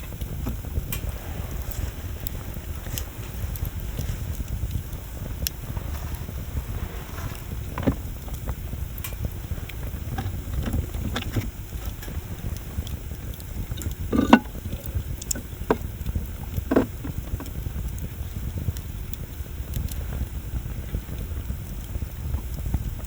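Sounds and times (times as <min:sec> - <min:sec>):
bonfire crackling and popping: 0:00.0 - 0:23.0
low fire rumble: 0:00.0 - 0:23.0.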